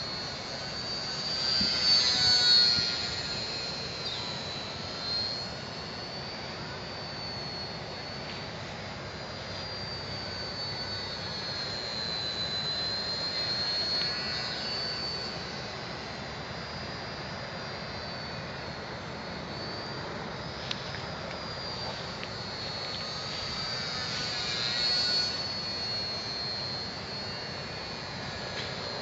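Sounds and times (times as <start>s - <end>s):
model plane motor whine: 0.0s - 29.0s.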